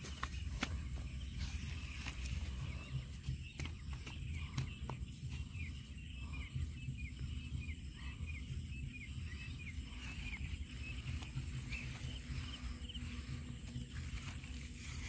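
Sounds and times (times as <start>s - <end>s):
bird chirping: 0.0s - 15.0s
steady low rumble: 0.0s - 15.0s.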